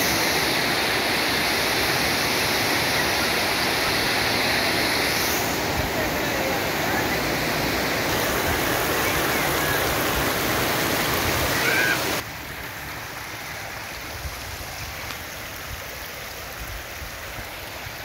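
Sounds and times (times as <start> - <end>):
steady hiss: 0.0 - 18.0
water rushing over cobblestones: 0.0 - 18.0.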